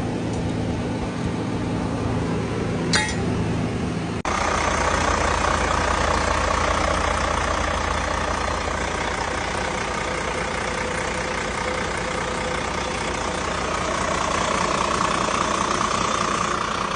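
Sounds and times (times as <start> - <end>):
truck diesel engine idling: 0.0 - 16.9.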